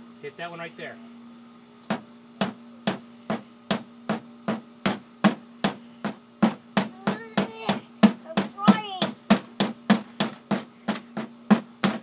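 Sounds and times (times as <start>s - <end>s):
steady low hum: 0.0s - 12.0s
hammer striking a nail: 1.9s - 12.0s.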